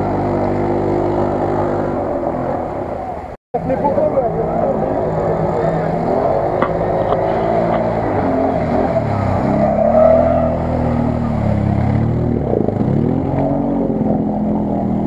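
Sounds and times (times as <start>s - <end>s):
quad engine revving: 0.0s - 15.0s.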